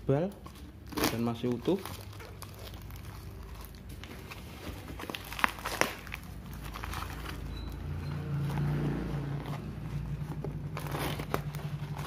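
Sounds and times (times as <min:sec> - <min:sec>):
cardboard and tape crackling: 0:00.1 - 0:12.0.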